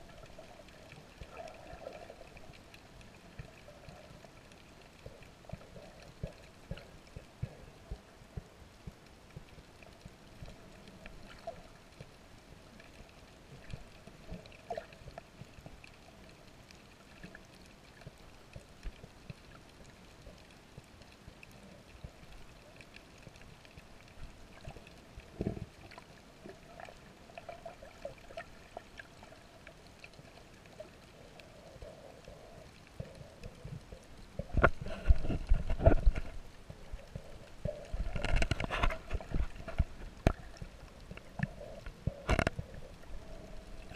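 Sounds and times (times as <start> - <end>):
faint underwater clicks and crackle: 0.0 - 43.9
rushing bubbling water: 0.0 - 43.9.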